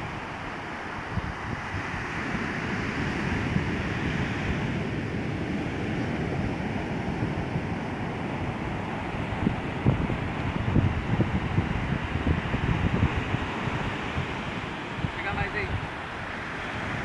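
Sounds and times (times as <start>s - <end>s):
ocean waves breaking: 0.0s - 17.0s
wind rumbling on microphone: 0.0s - 17.0s.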